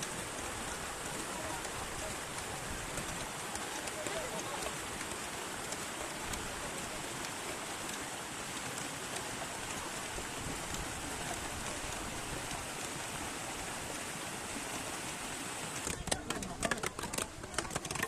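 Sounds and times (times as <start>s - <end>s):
river water rushing: 0.0s - 17.4s.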